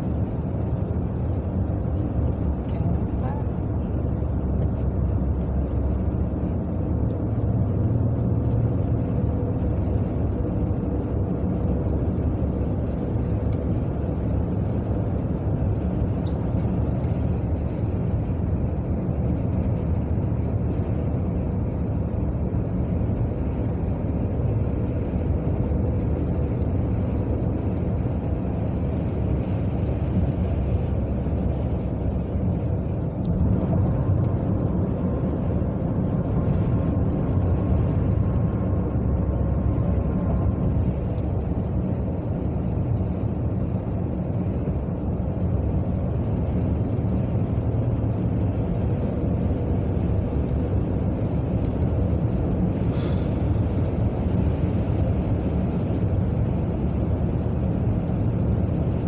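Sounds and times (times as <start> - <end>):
car road noise from cabin: 0.0 - 59.0.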